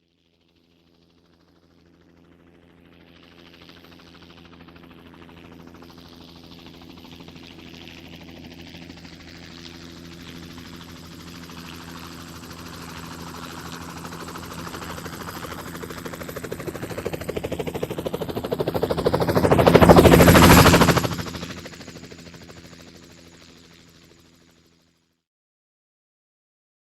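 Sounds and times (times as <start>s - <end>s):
helicopter turbine whine: 0.2s - 24.9s
helicopter rotor blades chopping: 2.1s - 24.6s.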